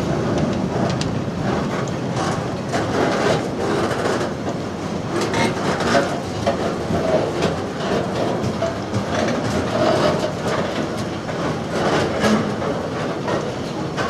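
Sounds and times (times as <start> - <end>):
steel wheels rumbling on rail: 0.0 - 14.0
wheels clicking over rail joints: 0.0 - 14.0.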